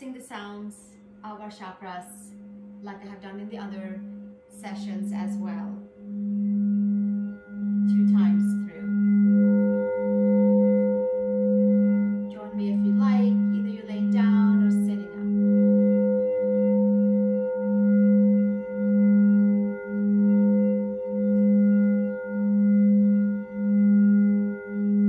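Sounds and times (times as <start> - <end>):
singing bowl humming: 0.0 - 25.0.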